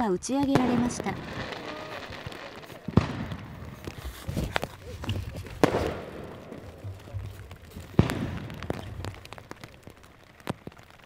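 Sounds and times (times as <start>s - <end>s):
fainter firework pops: 0.2s - 11.0s
firework shells bursting: 0.2s - 11.0s.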